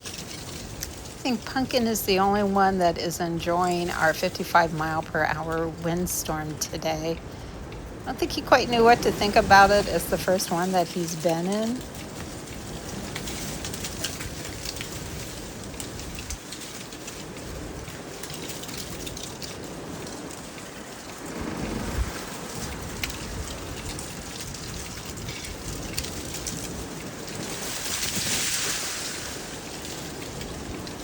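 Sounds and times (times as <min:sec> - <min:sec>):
small crackles: 0:00.0 - 0:31.0
strong wind gusting: 0:00.0 - 0:31.0.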